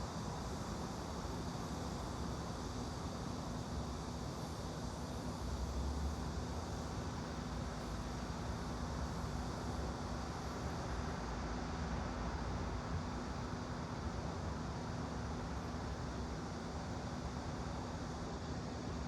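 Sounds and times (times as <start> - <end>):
white noise with low hum: 0.0 - 19.0.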